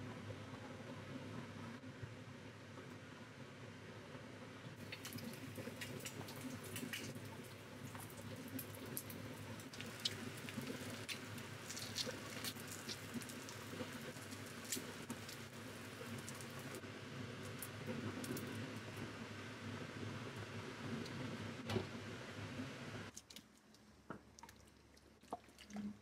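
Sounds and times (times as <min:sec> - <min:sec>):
food simmering in a pan: 0:04.8 - 0:26.0.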